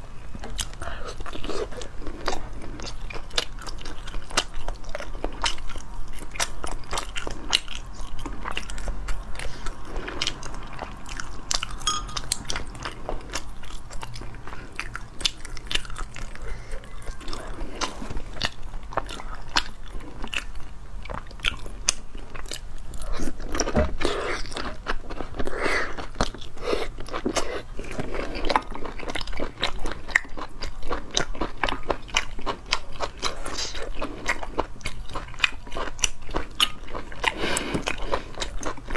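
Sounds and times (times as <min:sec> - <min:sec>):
crunchy wet chewing: 0:00.4 - 0:38.9.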